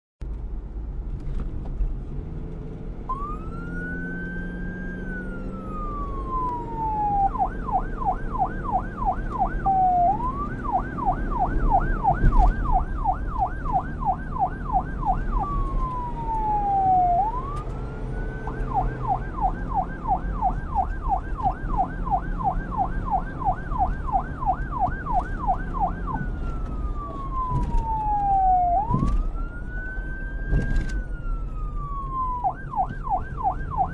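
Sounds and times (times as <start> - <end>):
police siren wailing and yelping: 3.1 - 33.9.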